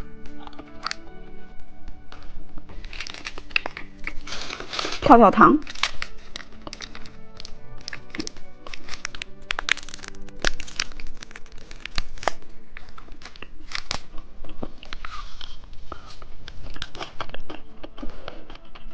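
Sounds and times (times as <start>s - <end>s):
plastic wrapper crinkling: 0.0s - 18.0s.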